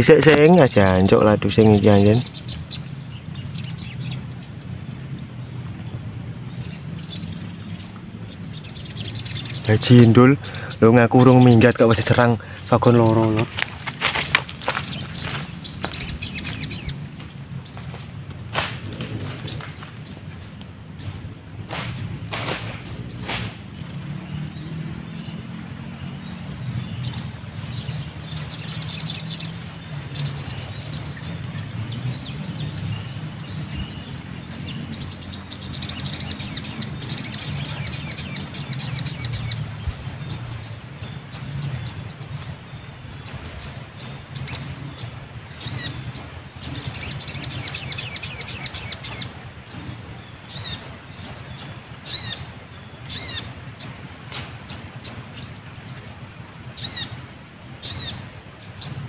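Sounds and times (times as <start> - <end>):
sunbird trills and chirps: 0.0 - 18.0, 18.6 - 59.0.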